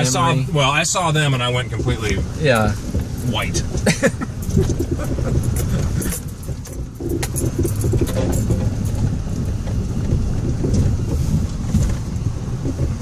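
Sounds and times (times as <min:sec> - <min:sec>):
engine and drivetrain rumble: 0:00.0 - 0:13.0
rattles and clicks in truck cab: 0:00.0 - 0:13.0.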